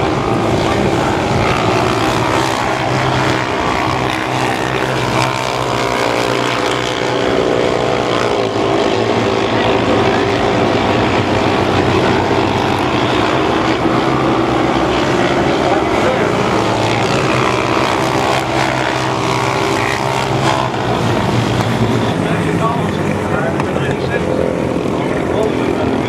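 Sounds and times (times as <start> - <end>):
race car engines passing: 0.0 - 26.0.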